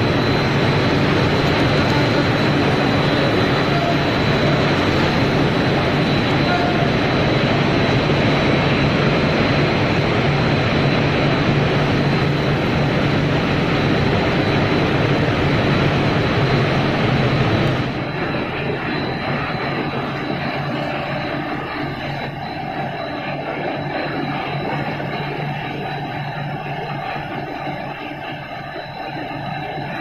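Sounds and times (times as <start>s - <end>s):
high steady whine: 0.0s - 30.0s
machine drone: 0.0s - 30.0s.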